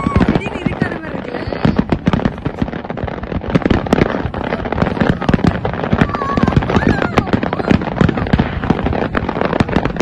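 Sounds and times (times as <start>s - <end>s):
fireworks bursting: 0.0s - 10.0s
fireworks crackle: 0.0s - 10.0s.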